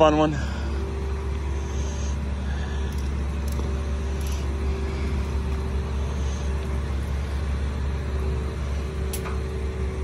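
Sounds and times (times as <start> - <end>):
diesel engine rumbling under load: 0.0 - 10.0.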